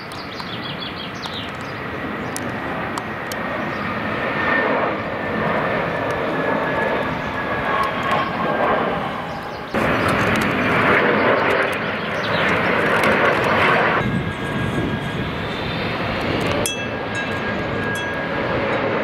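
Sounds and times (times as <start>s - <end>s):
jet airliner engines rushing: 0.0s - 19.0s.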